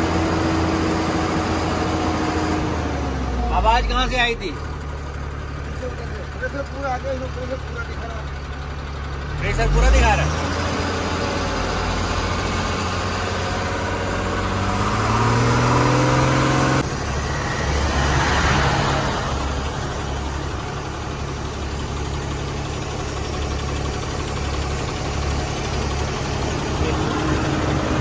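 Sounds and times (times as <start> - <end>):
diesel engine idling: 0.0 - 28.0
diesel engine revving: 0.0 - 28.0.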